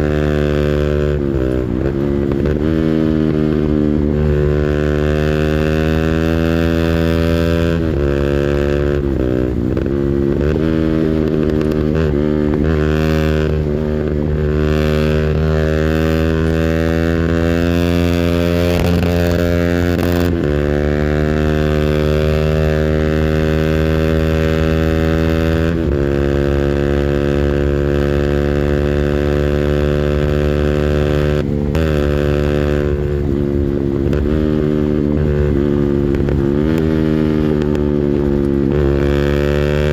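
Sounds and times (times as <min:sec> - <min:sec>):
engine at high revs: 0:00.0 - 0:39.9.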